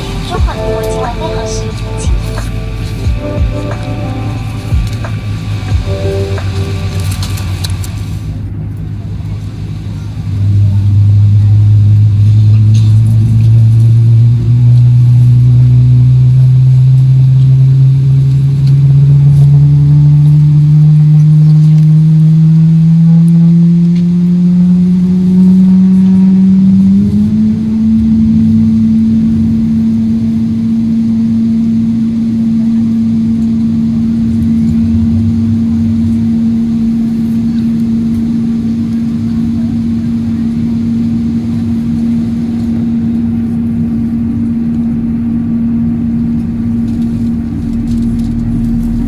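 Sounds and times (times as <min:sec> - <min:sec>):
vehicle running hum: 0:00.0 - 0:49.0.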